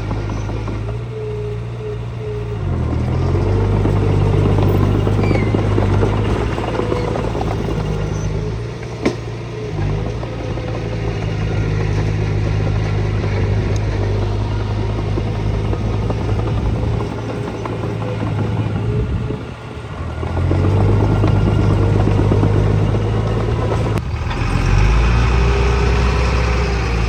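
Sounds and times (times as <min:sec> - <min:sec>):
heavy diesel engine under load: 0:00.0 - 0:27.0.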